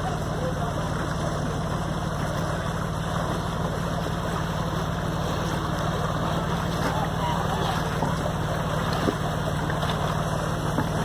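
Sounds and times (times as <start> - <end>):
ship engine droning: 0.0 - 11.0.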